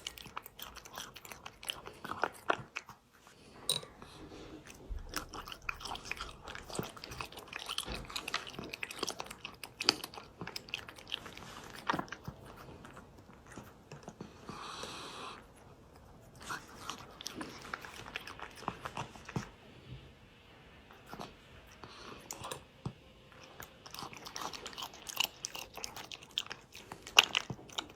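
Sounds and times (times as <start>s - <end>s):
cat chewing food: 0.0s - 20.0s, 20.8s - 27.9s.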